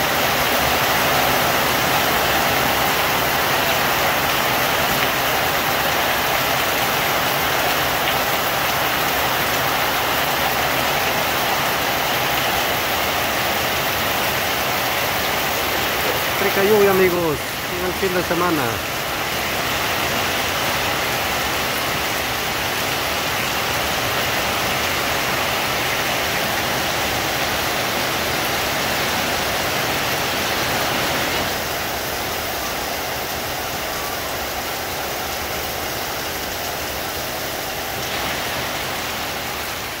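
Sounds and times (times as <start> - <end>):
heavy rain on leaves and roof: 0.0 - 40.0
water streaming off eaves: 0.0 - 40.0.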